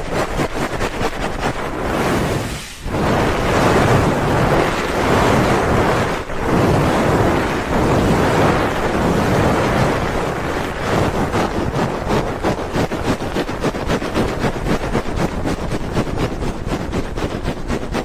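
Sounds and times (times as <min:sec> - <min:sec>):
hands rubbing microphone: 0:00.0 - 0:18.0.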